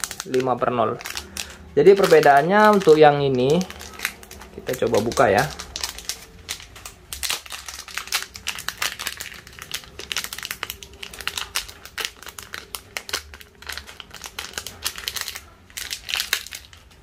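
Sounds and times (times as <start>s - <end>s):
plastic packet crinkling: 0.0s - 17.0s.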